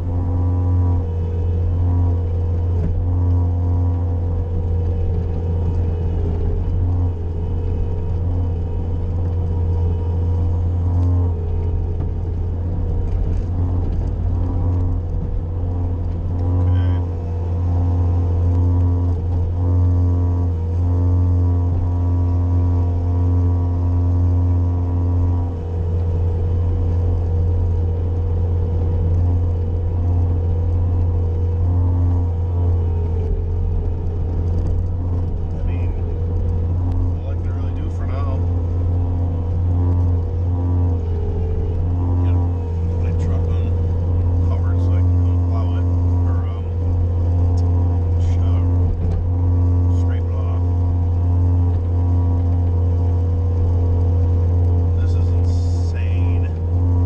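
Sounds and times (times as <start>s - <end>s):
loader engine running: 0.0s - 57.0s.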